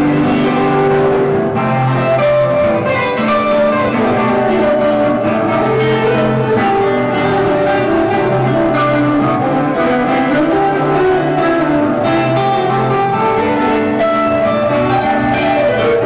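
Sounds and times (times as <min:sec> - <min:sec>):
guitar melody: 0:00.0 - 0:16.0.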